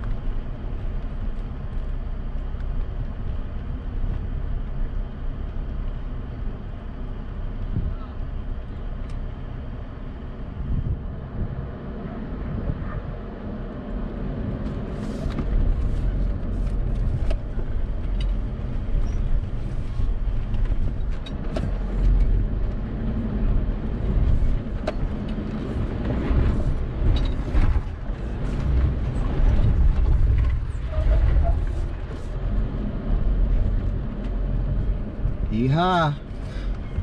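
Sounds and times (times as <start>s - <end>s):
truck engine rumbling: 0.0s - 37.0s.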